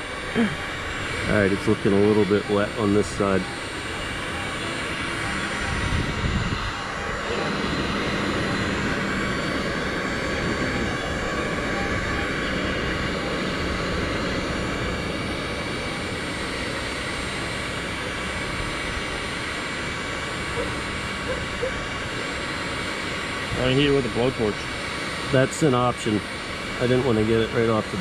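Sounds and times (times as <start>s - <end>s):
heat gun fan whooshing hum: 0.0s - 28.0s.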